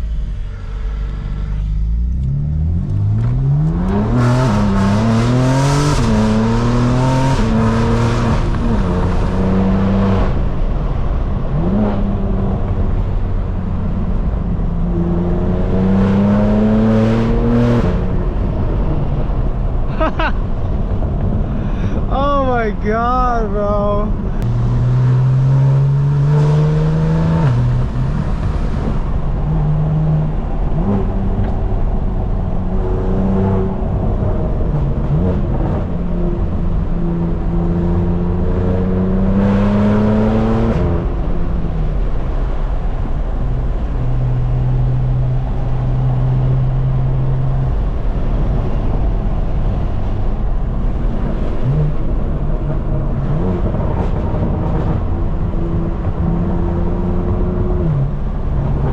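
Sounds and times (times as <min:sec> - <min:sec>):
car engine revving through gears: 0:00.4 - 0:13.1, 0:14.3 - 0:19.5, 0:24.4 - 0:43.0, 0:44.1 - 0:58.9.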